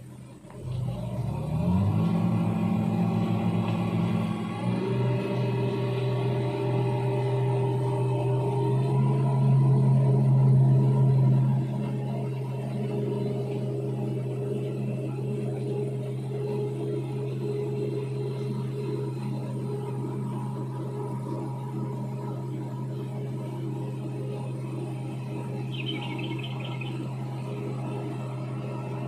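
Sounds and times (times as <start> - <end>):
diesel engine deep hum: 0.0 - 29.0.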